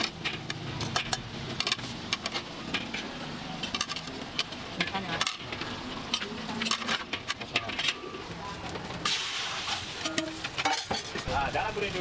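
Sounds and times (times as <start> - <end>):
metal utensils and dishes clinking: 0.0 - 12.0.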